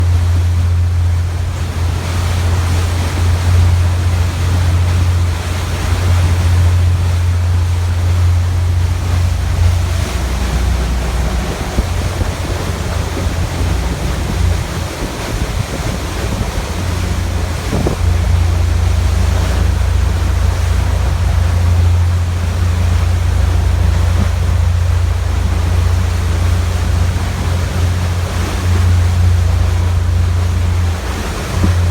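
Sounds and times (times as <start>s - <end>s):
boat engine drone: 0.0s - 31.9s
rushing water: 0.0s - 31.9s
wind buffeting microphone: 0.0s - 31.9s.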